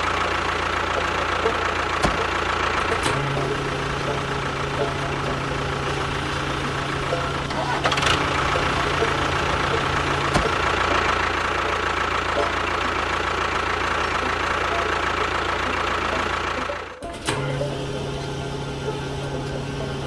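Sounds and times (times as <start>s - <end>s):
small motor whining: 0.0s - 20.0s.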